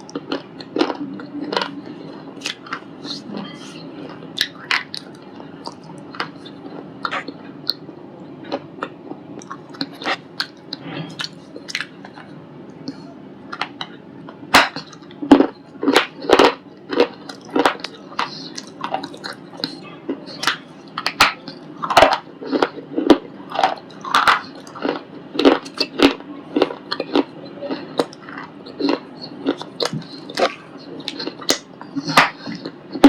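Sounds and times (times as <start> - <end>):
person chewing with crunches: 0.0 - 33.0.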